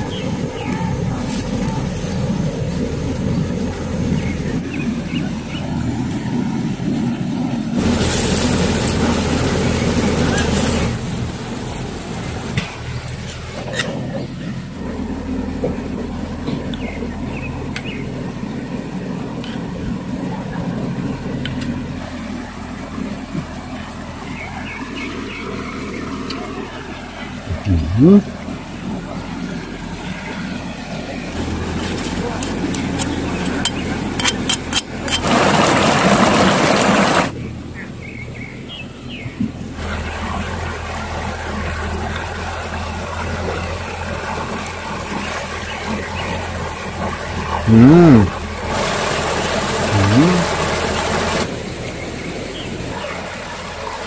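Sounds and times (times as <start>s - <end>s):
stream flowing over stones: 0.0s - 37.4s, 39.6s - 54.0s
low steady rumble: 0.0s - 54.0s.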